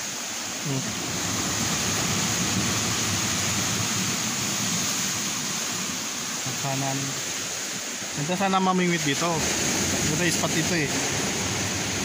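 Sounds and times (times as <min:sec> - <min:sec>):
waves breaking on rocky shore: 0:00.0 - 0:12.0.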